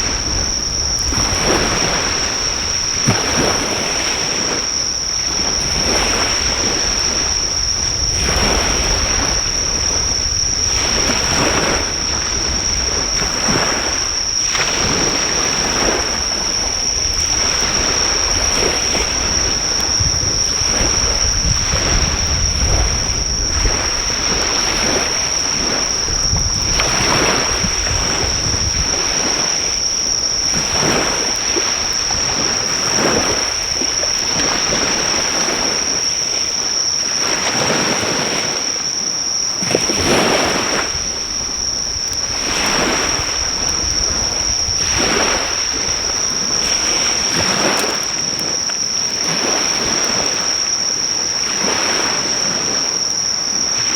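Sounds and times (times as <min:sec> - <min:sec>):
insects trilling: 0:00.0 - 0:53.9
surf breaking on shore: 0:00.0 - 0:53.9.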